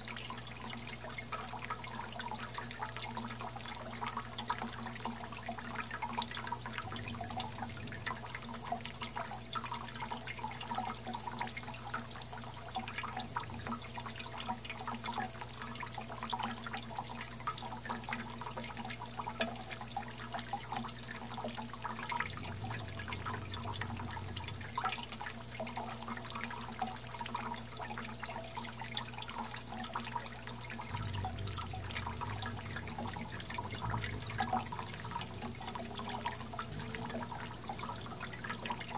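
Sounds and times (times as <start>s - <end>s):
fountain water splashing and dripping: 0.0s - 38.9s
low steady hum: 0.0s - 38.9s.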